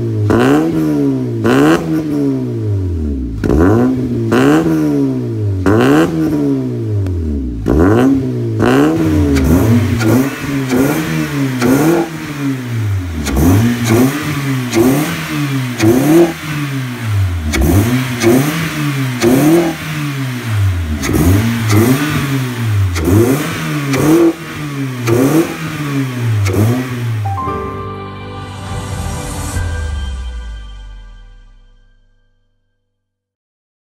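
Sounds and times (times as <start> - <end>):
car engine revving: 0.0 - 27.3.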